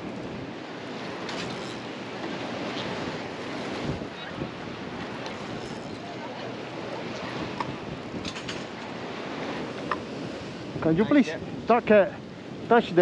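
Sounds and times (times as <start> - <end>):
ocean surf: 0.0 - 13.0
wind buffeting microphone: 0.0 - 13.0.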